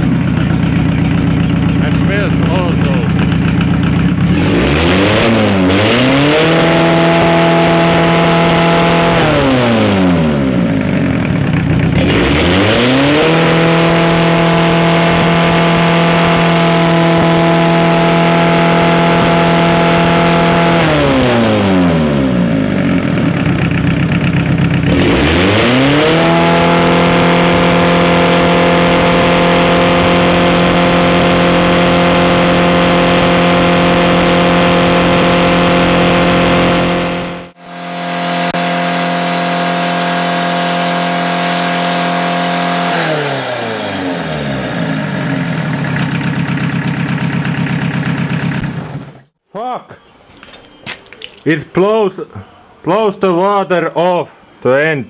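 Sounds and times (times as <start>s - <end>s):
diesel engine revving: 0.0s - 49.4s.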